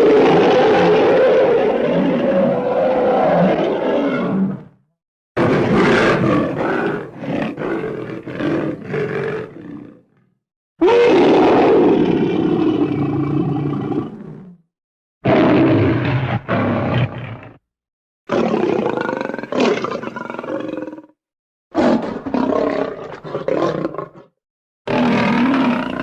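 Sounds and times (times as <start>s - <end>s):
lion roaring: 0.0s - 4.8s, 5.4s - 10.2s, 10.8s - 14.6s, 15.2s - 17.6s, 18.3s - 21.1s, 21.8s - 24.3s, 24.9s - 26.0s.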